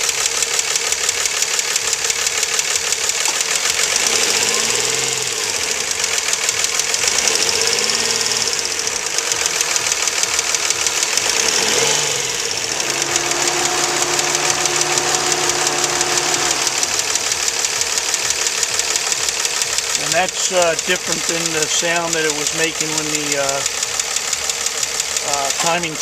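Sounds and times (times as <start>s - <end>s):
car engine revving: 0.0s - 26.0s
rapid engine ticking: 0.0s - 26.0s.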